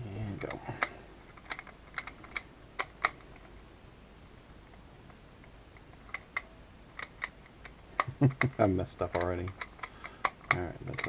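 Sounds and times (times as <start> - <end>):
sharp plastic clicks: 0.4 - 3.5, 4.7 - 11.0.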